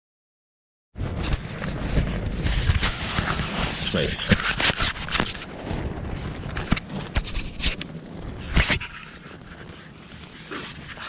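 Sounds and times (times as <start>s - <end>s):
wind buffeting tent fabric: 0.9s - 11.0s.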